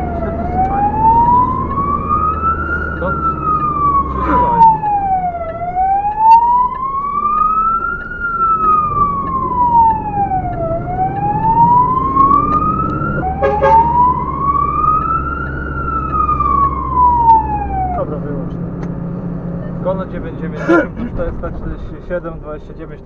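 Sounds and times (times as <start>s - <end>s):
fire engine siren wailing: 0.0s - 18.8s
truck engine running: 0.0s - 23.0s.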